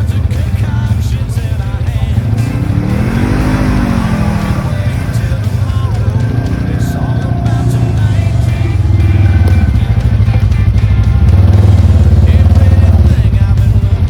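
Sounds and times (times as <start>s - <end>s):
atv engine throbbing: 0.0s - 14.0s
music: 0.0s - 14.0s.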